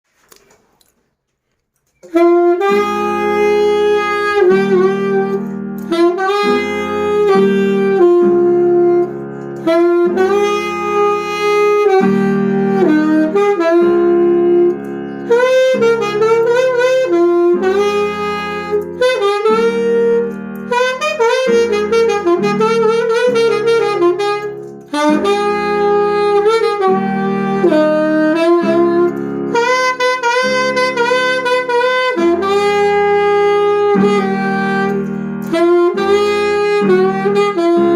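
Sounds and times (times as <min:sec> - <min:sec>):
solo saxophone melody: 0:02.0 - 0:37.9.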